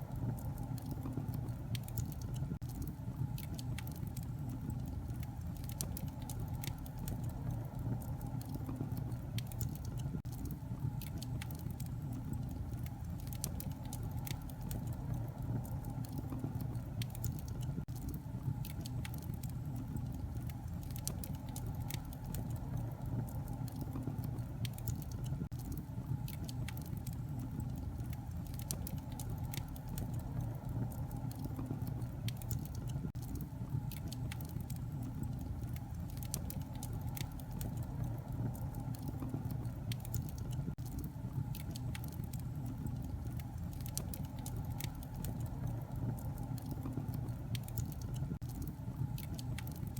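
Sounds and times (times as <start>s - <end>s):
fire popping and snapping: 0.0s - 49.9s
wood fire crackling: 0.0s - 49.9s.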